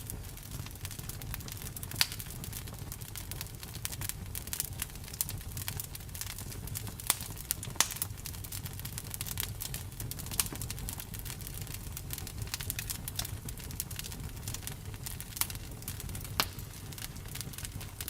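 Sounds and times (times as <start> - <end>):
campfire crackling and popping: 0.0 - 18.0
low rumble of burning wood: 0.0 - 18.0.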